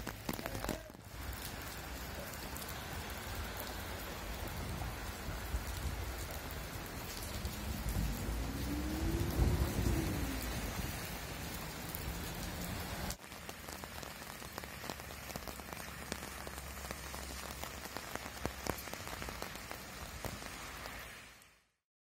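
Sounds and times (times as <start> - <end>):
raindrop taps: 0.0 - 21.1
rain on wet pavement: 0.0 - 21.7.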